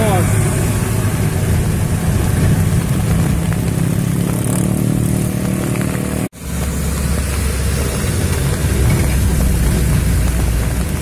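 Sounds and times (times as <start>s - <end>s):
motorbikes passing: 0.0s - 11.0s
trucks passing: 0.0s - 11.0s.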